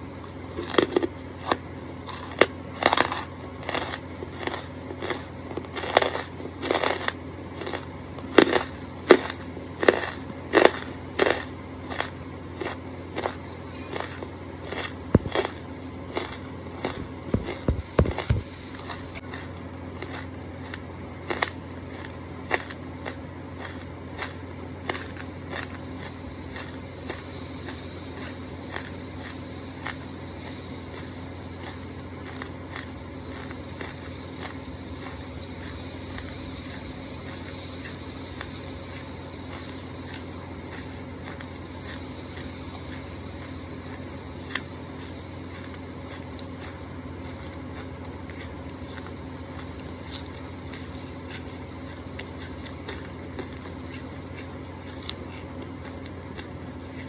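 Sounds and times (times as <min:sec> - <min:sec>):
chewing crunchy charcoal: 0:00.0 - 0:57.0
steady low hum: 0:00.0 - 0:57.0.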